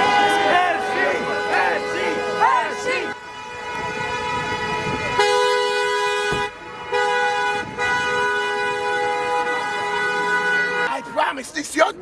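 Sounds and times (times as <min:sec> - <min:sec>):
vehicle horn blaring: 0:00.0 - 0:11.0
street crowd: 0:00.0 - 0:12.0.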